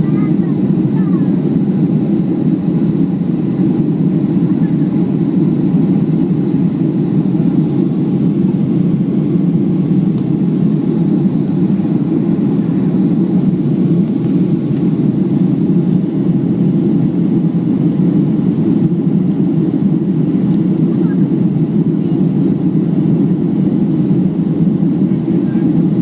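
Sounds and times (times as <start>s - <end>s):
airplane cabin engine roar: 0.0s - 26.0s.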